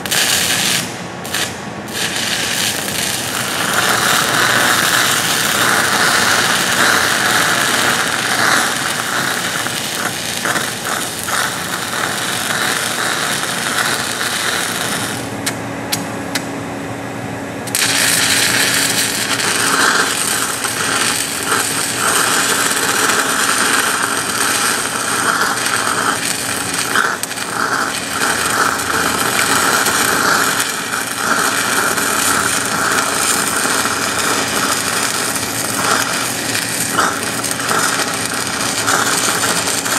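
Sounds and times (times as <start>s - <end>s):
welding arc crackling: 0.0s - 16.5s, 17.6s - 39.9s.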